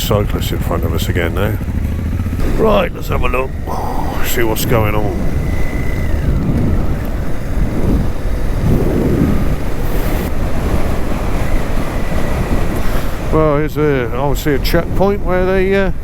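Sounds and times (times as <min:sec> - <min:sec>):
motorcycle engine running: 0:00.0 - 0:14.7
wind buffeting microphone: 0:00.0 - 0:16.0.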